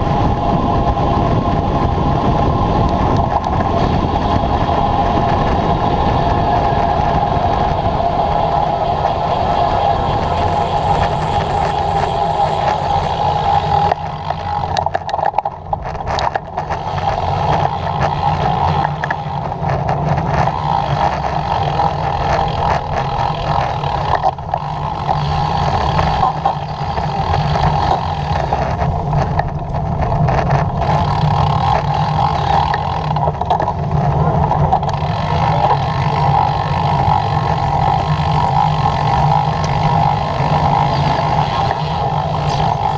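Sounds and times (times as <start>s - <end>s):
tyre and road noise: 0.0s - 42.9s
wind on microphone: 0.0s - 42.9s.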